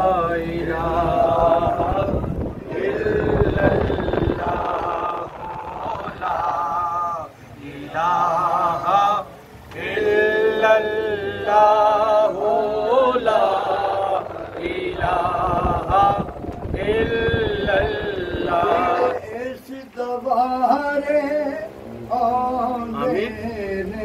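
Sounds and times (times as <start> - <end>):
men singing a devotional chant: 0.0 - 24.0.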